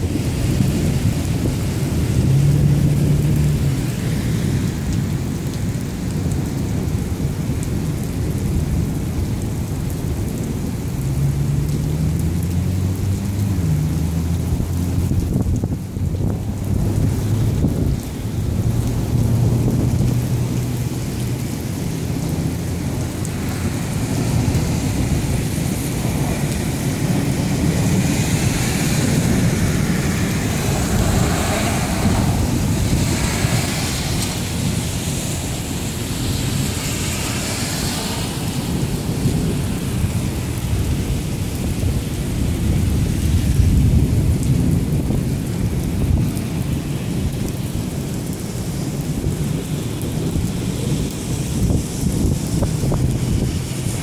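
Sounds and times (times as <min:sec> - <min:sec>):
steady rain: 0:00.0 - 0:54.0
thunder rumbling: 0:00.0 - 0:54.0.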